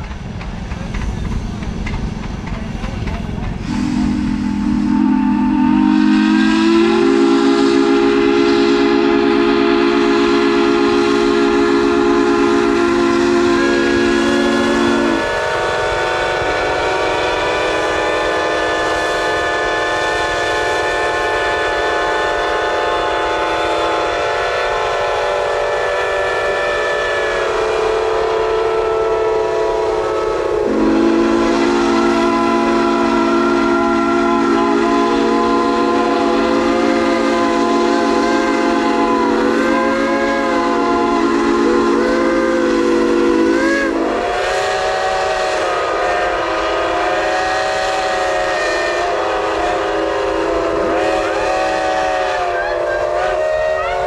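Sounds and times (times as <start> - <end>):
high steam whistles: 0.0 - 54.0
deep chord steam whistle: 3.6 - 54.0.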